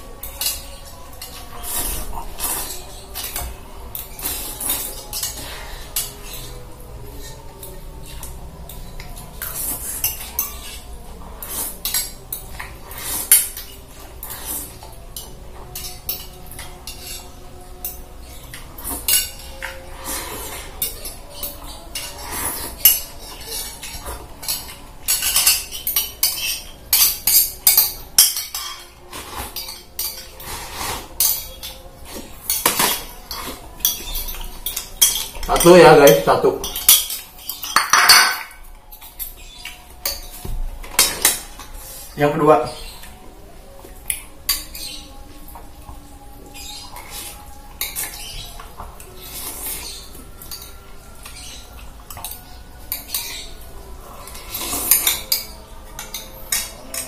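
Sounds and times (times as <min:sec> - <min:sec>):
cutlery clinking on a plate: 0:00.1 - 0:06.6, 0:07.2 - 0:41.7, 0:44.0 - 0:53.6, 0:54.2 - 0:57.0.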